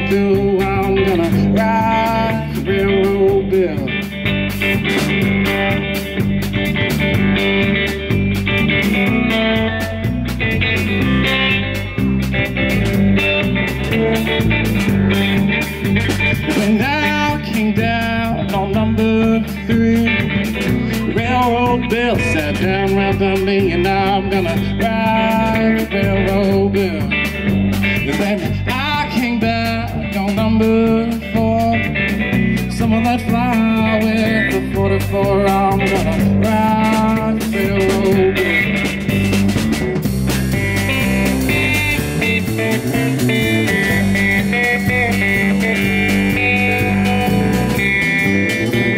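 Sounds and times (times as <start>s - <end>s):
drum kit steady beat: 0.0s - 48.9s
electric bass: 0.0s - 48.9s
electric guitar bending notes: 0.0s - 48.9s.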